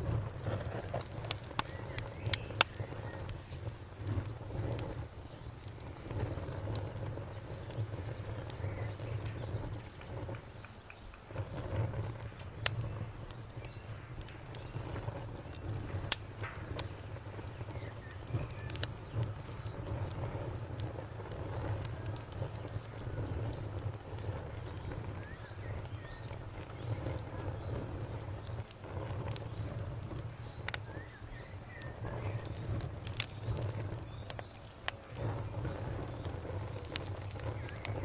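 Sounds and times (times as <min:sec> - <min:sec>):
crickets chirping: 0:00.0 - 0:38.0
wood fire crackling: 0:00.0 - 0:38.0.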